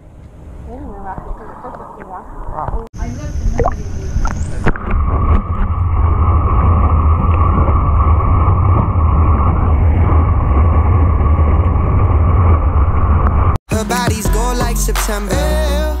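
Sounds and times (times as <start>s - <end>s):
hot tub jets rumbling underwater: 0.4s - 13.6s.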